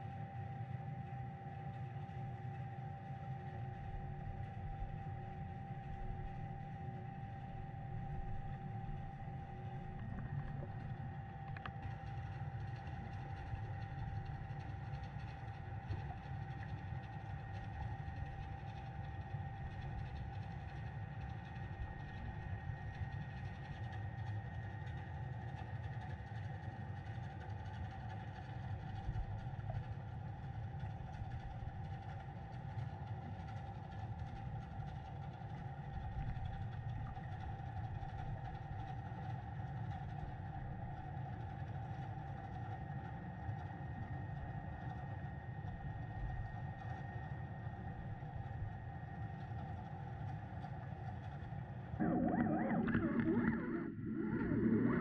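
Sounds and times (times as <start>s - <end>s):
faint high whining tones: 0.0s - 55.0s
underwater low rumble: 0.0s - 55.0s.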